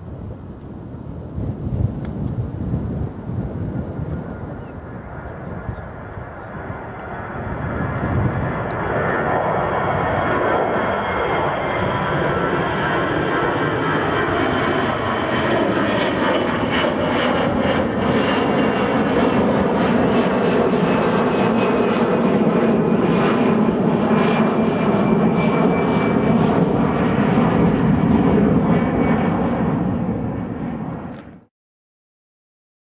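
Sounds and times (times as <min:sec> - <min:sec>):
faint jet whine: 0:00.0 - 0:31.5
jet engines rumbling: 0:00.0 - 0:31.5.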